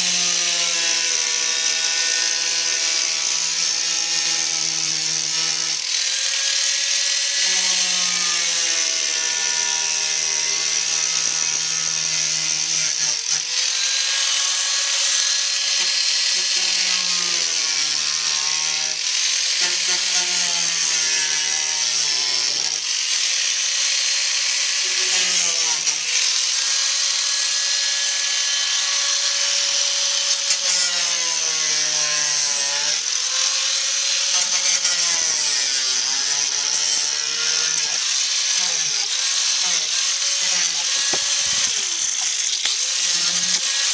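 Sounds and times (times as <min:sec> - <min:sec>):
power tool cutting metal panel: 0:00.0 - 0:43.9.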